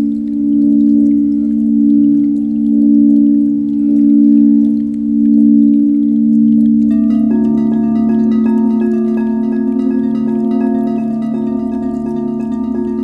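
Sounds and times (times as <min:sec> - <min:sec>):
singing bowl low drone: 0:00.0 - 0:13.0.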